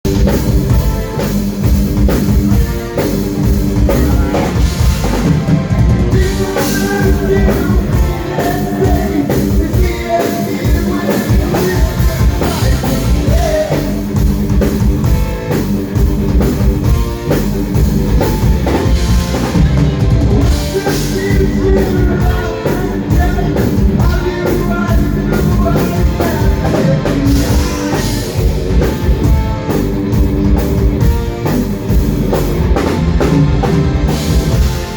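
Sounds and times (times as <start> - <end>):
drum kit beat: 0.0 - 34.9
live heavy rock band: 0.0 - 34.9.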